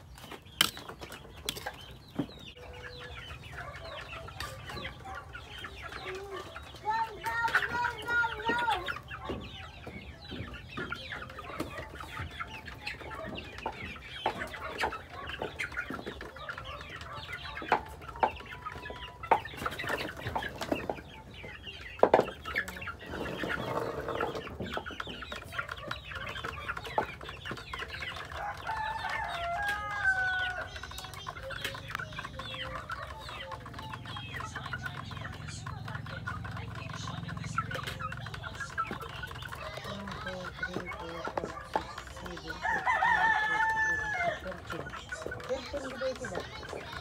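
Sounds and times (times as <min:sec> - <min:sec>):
chickens clucking: 0:00.0 - 0:47.0.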